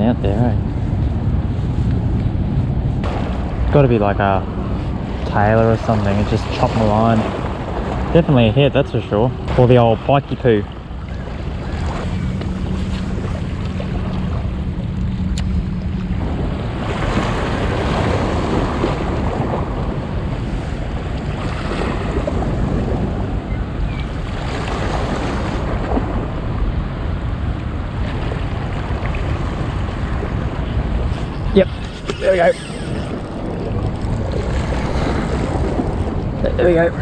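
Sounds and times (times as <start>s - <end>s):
wind buffeting microphone: 0.0s - 37.0s
small waves lapping at bank: 3.0s - 23.2s, 23.8s - 37.0s.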